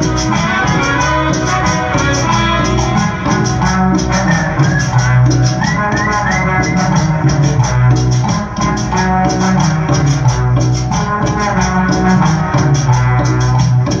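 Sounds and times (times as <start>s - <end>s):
cumbia music: 0.0s - 14.0s.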